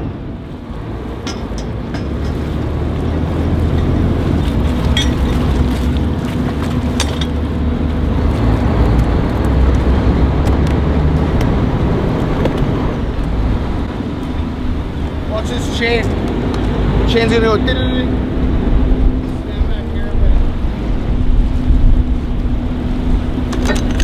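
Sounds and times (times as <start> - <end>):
diesel engine rumble: 0.0 - 24.0.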